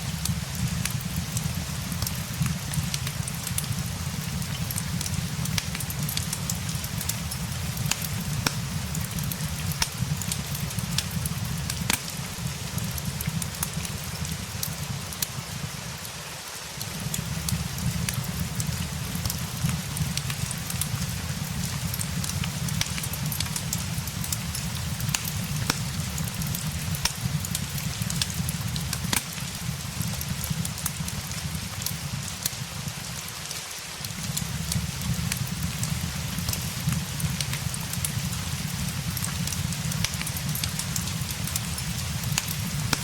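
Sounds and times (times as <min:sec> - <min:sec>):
low fire rumble: 0:00.0 - 0:16.2, 0:16.8 - 0:33.3, 0:34.0 - 0:43.0
fireplace crackling and popping: 0:00.0 - 0:43.0
steady rain hiss: 0:00.0 - 0:43.0.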